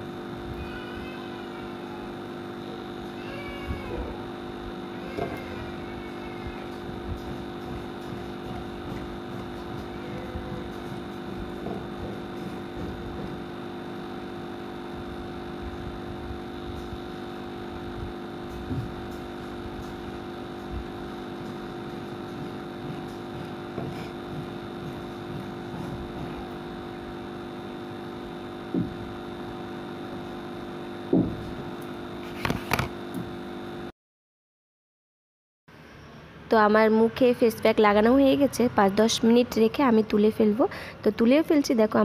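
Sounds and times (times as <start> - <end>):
fan motor humming: 0.0 - 33.9, 36.0 - 42.0.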